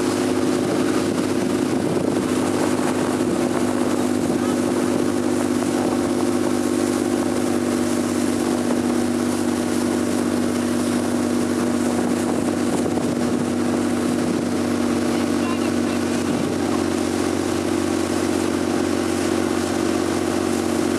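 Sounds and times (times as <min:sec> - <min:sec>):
motorboat engine droning: 0:00.0 - 0:20.9.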